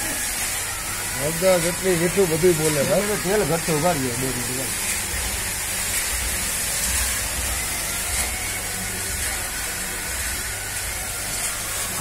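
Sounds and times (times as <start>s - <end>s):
chickpeas tumbling in roaster drum: 0.0s - 12.0s
low machine hum: 0.0s - 12.0s.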